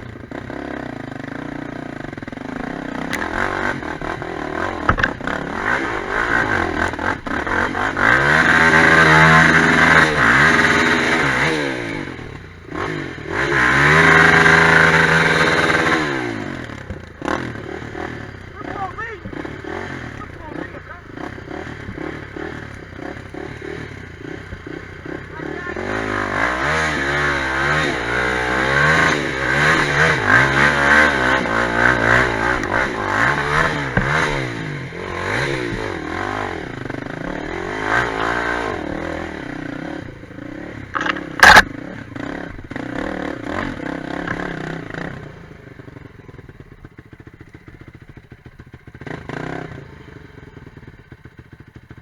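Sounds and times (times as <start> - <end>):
quad bike engine revving: 0.0 - 52.0.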